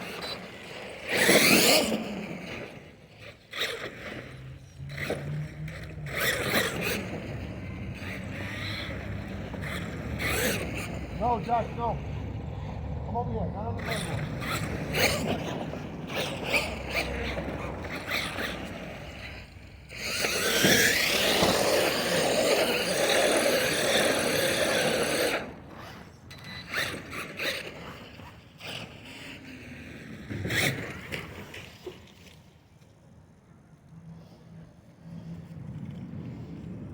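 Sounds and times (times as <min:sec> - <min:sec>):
toy truck motor whine: 0:00.0 - 0:13.0, 0:13.8 - 0:31.6.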